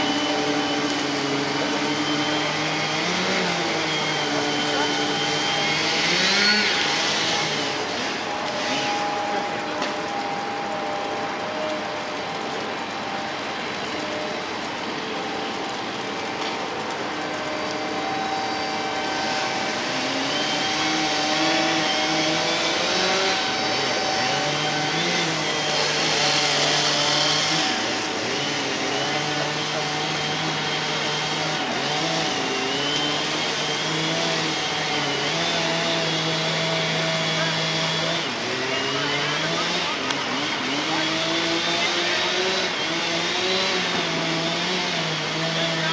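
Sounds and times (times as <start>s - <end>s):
chainsaws whining: 0.0s - 45.9s
excavator engine: 0.0s - 45.9s.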